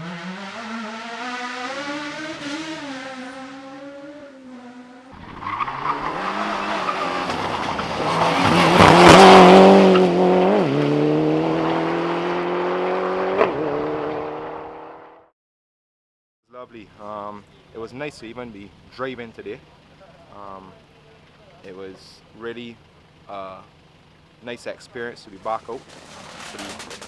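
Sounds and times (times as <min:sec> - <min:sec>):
racing car engines at speed: 0:00.0 - 0:15.3, 0:18.5 - 0:27.0.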